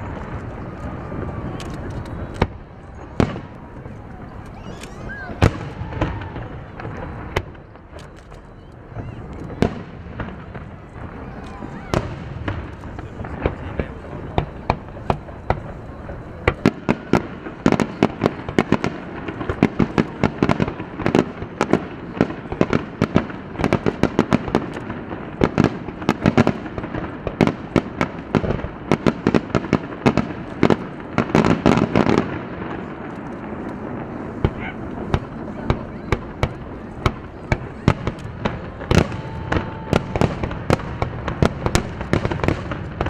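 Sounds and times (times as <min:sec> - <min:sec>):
fireworks booming: 0:00.0 - 0:43.0.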